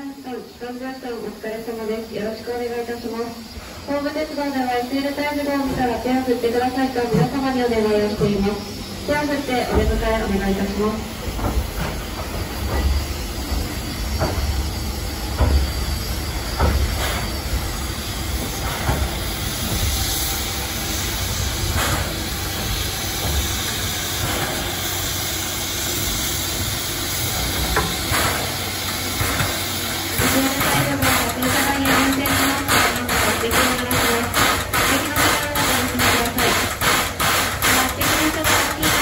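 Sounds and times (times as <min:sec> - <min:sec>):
steam locomotive hissing steam: 0:00.0 - 0:39.0.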